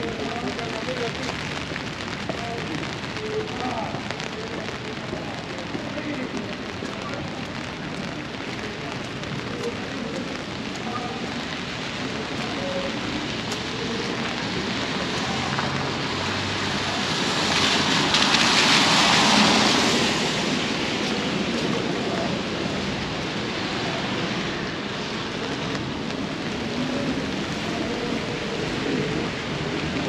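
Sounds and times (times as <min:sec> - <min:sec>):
rain falling on wet street: 0:00.0 - 0:30.0.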